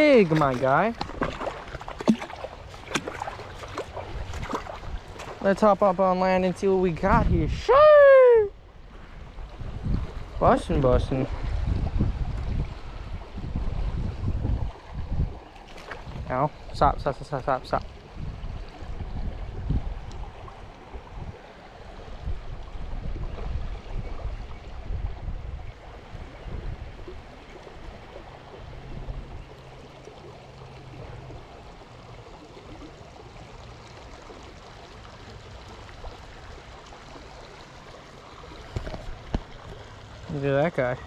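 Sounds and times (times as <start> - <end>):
creek trickling: 0.0 - 41.0.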